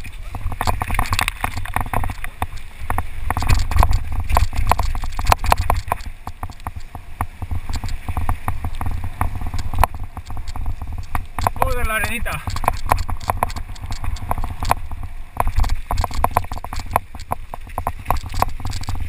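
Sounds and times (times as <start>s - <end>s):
bike rattling on rocks: 0.0s - 19.0s
wind buffeting microphone: 0.0s - 19.0s.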